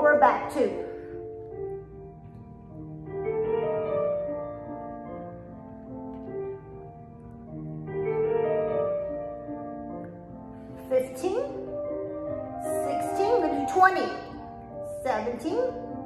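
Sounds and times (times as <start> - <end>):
gentle instrumental music: 0.0 - 16.0.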